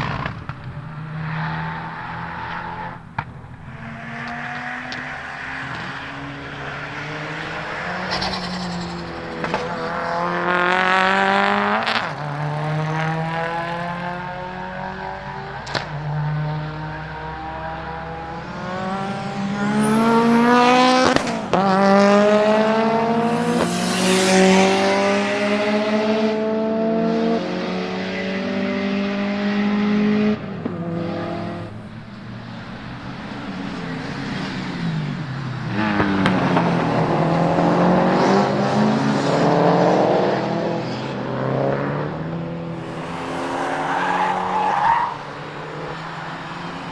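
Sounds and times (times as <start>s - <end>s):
car engines accelerating hard: 0.0s - 46.9s.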